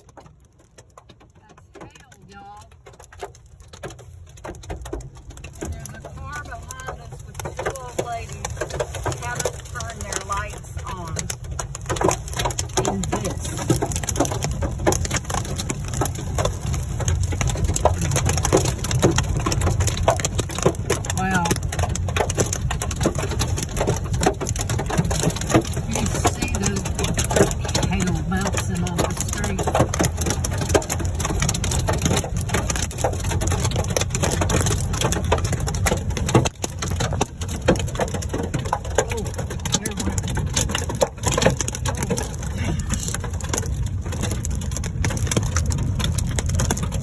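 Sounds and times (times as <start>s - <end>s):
hail knocking on car roof: 0.0s - 47.0s
low rumble of moving car: 0.0s - 47.0s.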